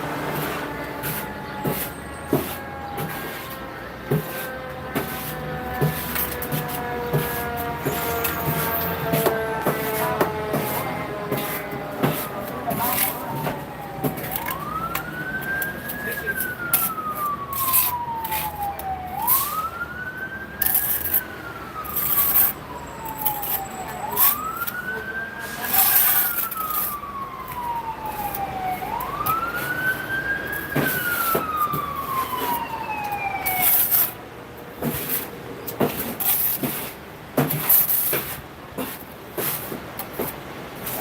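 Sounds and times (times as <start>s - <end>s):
emergency siren wailing: 0.0s - 36.9s.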